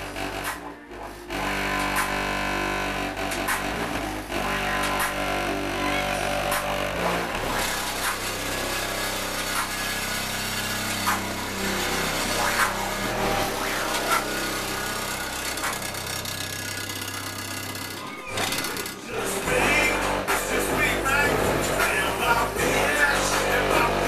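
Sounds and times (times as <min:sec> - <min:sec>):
heavy bass music through car stereo: 0:00.0 - 0:24.0.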